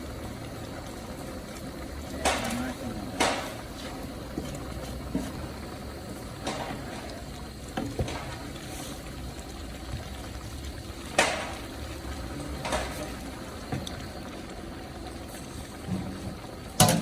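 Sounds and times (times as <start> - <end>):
liquid bubbling in pot: 0.0 - 17.0.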